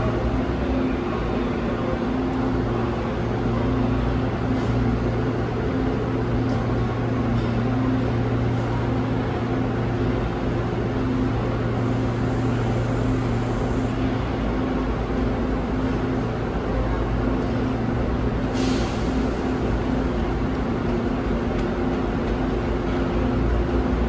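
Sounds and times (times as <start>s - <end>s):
train equipment humming: 0.0s - 24.0s.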